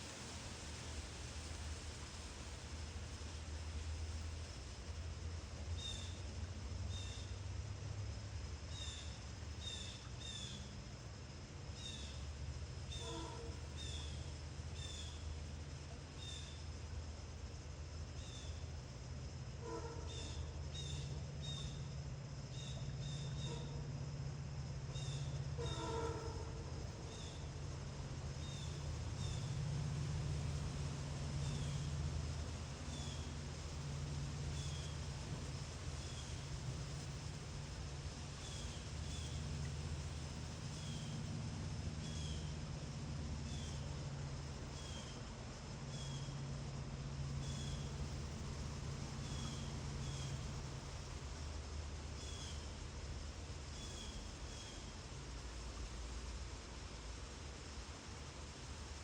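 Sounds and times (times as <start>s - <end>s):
low rumble of wind: 0.0s - 59.0s
steady low hum: 0.0s - 59.0s.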